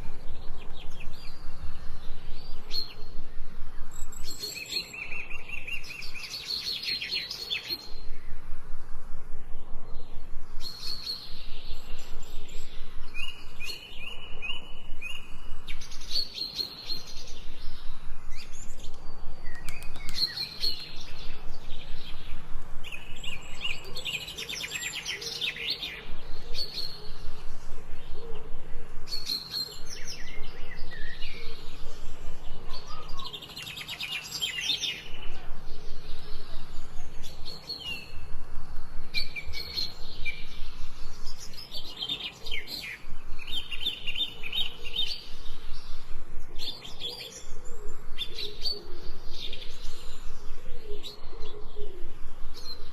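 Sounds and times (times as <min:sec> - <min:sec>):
birds singing and chirping: 0:00.0 - 0:52.9.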